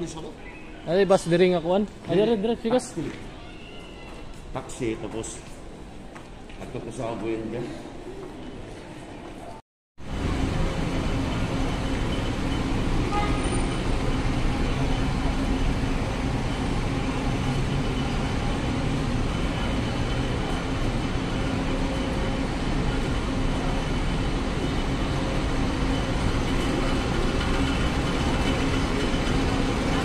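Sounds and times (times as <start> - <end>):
traffic hum of cars and buses: 0.0 - 30.0.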